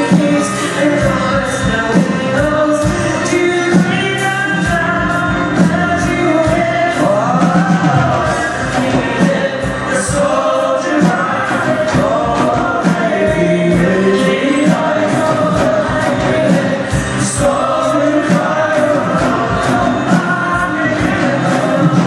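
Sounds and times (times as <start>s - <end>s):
double bass: 0.0s - 22.0s
guitar: 0.0s - 22.0s
voices singing chant-like line: 0.0s - 22.0s.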